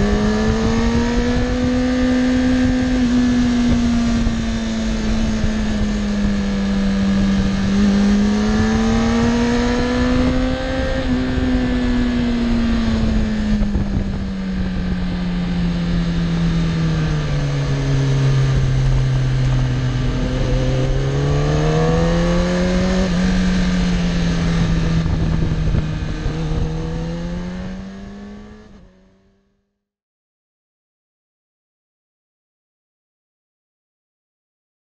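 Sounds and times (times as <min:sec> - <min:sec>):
wind noise: 0:00.0 - 0:28.9
motorcycle engine revving: 0:00.0 - 0:29.4.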